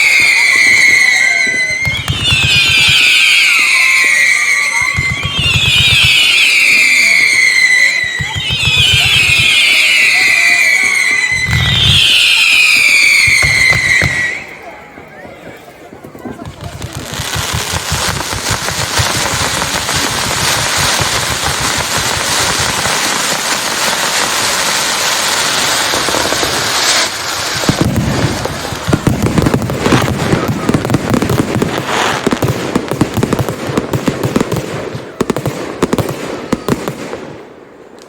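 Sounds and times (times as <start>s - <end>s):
fireworks hissing crackle: 0.0s - 37.7s
fireworks bangs: 0.0s - 38.0s.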